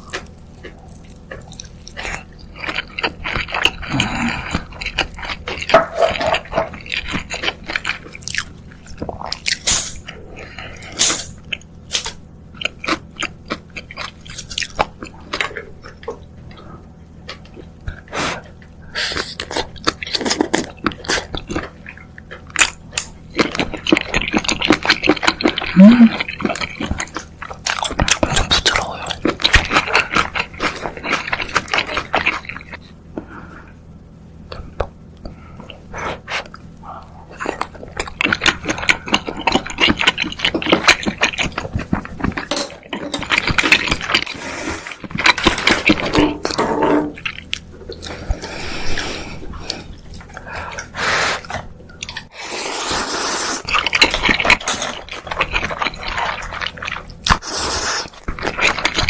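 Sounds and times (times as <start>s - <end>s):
slurping and chewing: 0.0s - 33.6s, 34.5s - 59.0s.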